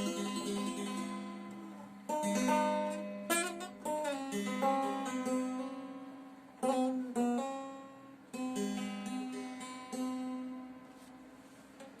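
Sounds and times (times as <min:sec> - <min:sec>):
lute strummed solo: 0:00.0 - 0:11.0.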